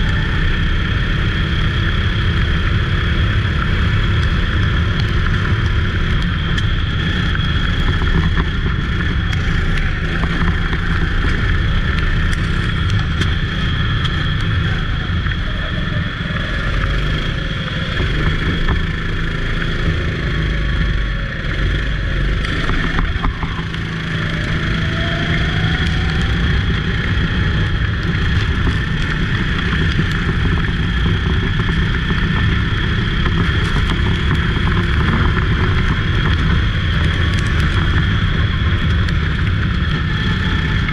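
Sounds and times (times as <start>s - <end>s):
engine pitch rising and falling: 0.0s - 40.9s
go-kart engine rumble and hiss: 0.0s - 40.9s.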